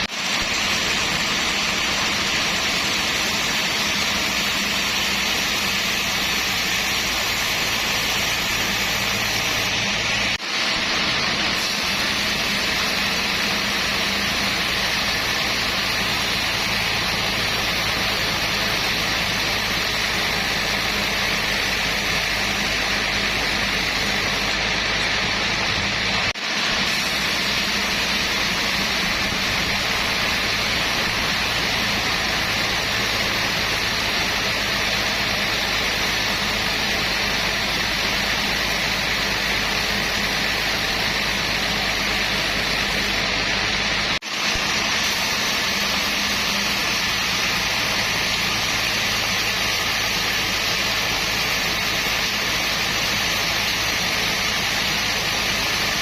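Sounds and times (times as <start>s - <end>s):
sawmill machinery rushing noise: 0.0s - 56.0s.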